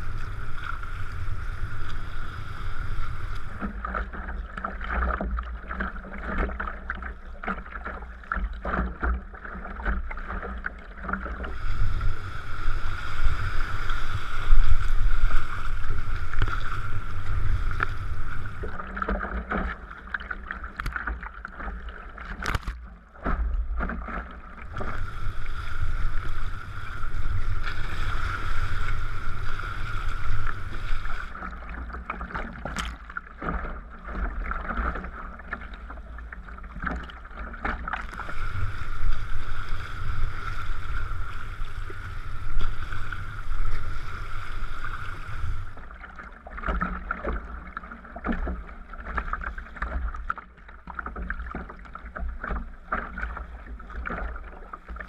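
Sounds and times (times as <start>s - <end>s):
paddle splashes: 0.0s - 55.0s
water noise: 0.0s - 55.0s.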